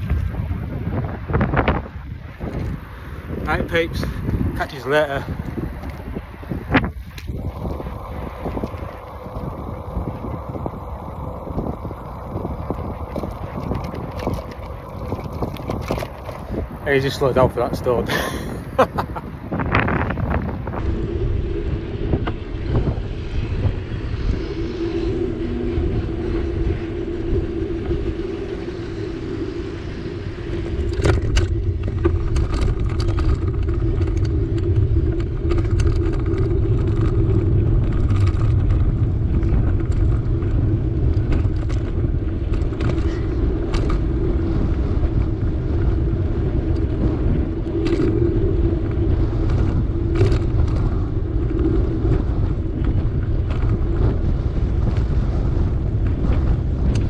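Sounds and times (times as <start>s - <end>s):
bicycle tyres rumbling: 0.0s - 57.0s
constant hum: 0.0s - 57.0s.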